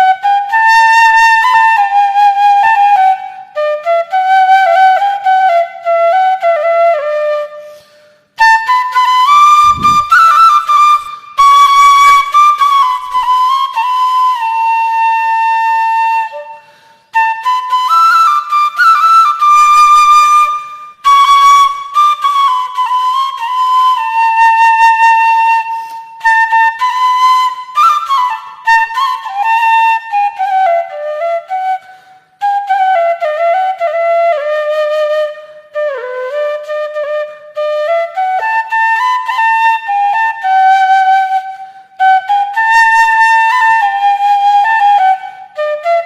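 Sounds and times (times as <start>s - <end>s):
solo flute melody: 0.0s - 46.0s.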